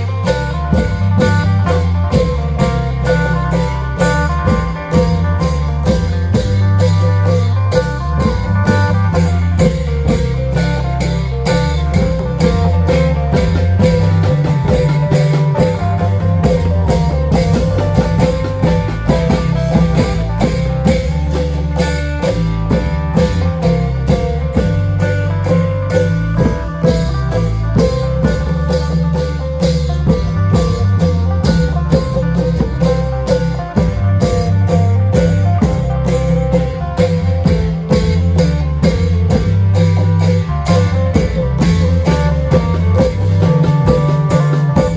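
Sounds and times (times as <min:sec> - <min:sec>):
driving drumming: 0:00.0 - 0:44.9
plucked-string melody: 0:00.0 - 0:44.9
steady bass notes: 0:00.0 - 0:44.9.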